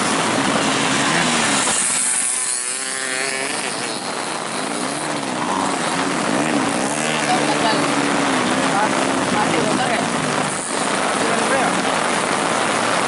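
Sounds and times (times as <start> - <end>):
motorcycle engines revving hard: 0.0 - 13.0.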